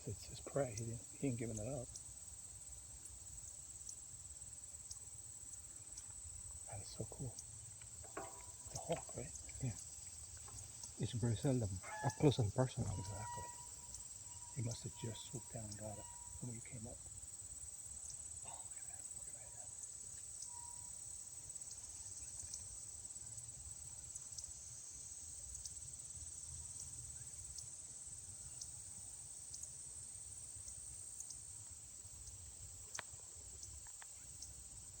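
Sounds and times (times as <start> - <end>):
insect chorus chirring: 0.0 - 35.0.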